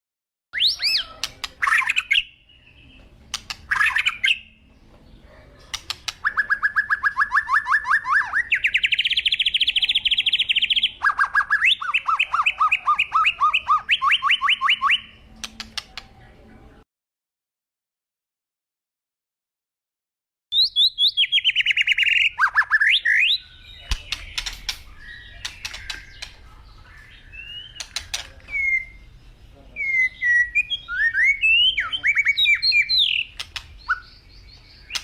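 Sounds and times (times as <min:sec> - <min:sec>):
songbird chirps and trills: 0:00.6 - 0:16.8, 0:20.5 - 0:35.0.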